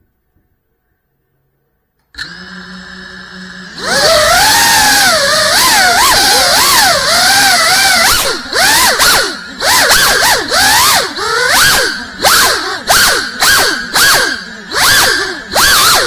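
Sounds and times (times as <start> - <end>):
drone motors whining: 2.2 - 16.0.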